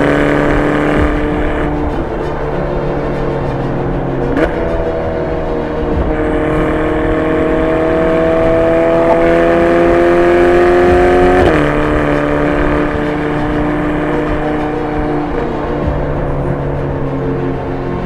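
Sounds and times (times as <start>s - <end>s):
car engine revving and idling: 0.0s - 18.0s.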